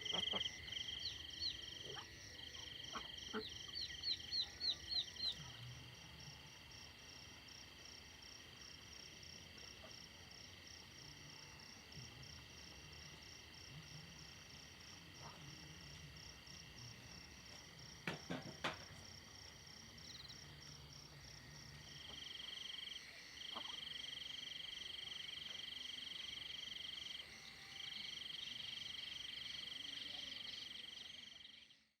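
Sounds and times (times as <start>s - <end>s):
crickets chirping: 0.0s - 31.9s
rapidly pulsing insect trill: 0.0s - 32.0s.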